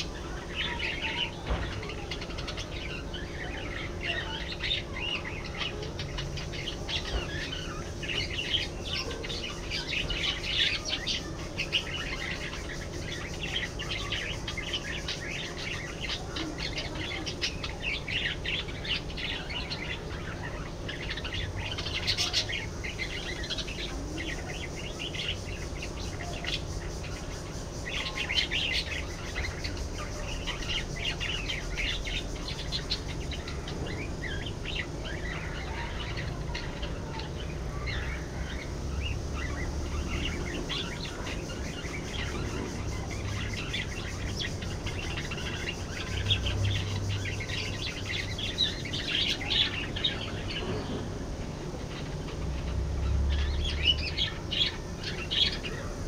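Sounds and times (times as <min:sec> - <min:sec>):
budgerigars chirping: 0:00.0 - 0:51.0, 0:51.6 - 0:56.0.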